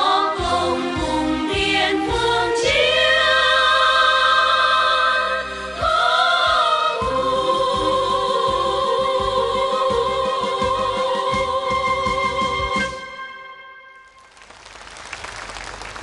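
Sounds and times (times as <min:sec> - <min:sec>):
female vocal group singing: 0:00.0 - 0:13.1
instrumental accompaniment: 0:00.0 - 0:14.3.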